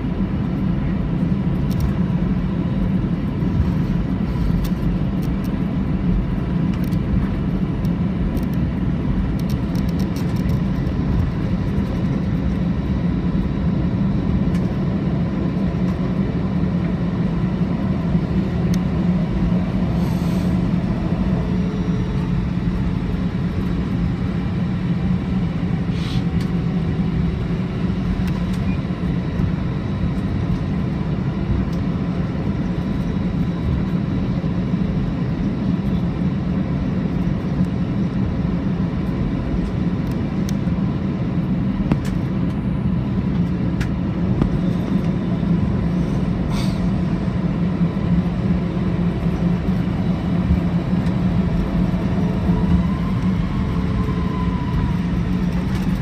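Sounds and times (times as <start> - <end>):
aircraft cabin rumble while taxiing: 0.0 - 56.0.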